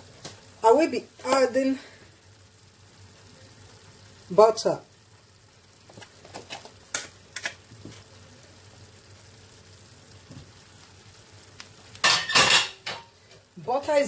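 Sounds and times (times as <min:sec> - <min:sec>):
pot simmering under a lid: 0:00.0 - 0:14.0.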